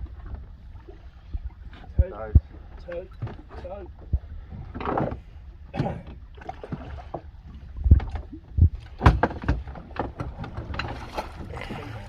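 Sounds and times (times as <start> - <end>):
low rumble: 0.0 - 12.0
knocks and thumps on boat deck: 1.2 - 12.0.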